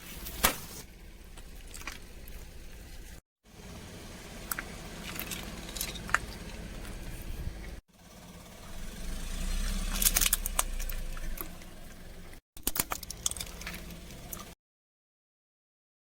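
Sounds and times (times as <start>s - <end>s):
car engine running low: 0.0s - 12.4s, 13.0s - 14.6s.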